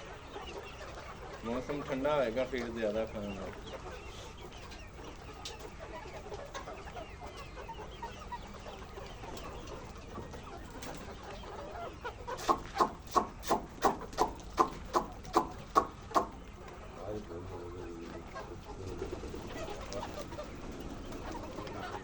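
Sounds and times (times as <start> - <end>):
chickens clucking: 0.0 - 22.0
loud evenly spaced clucks: 0.0 - 22.0.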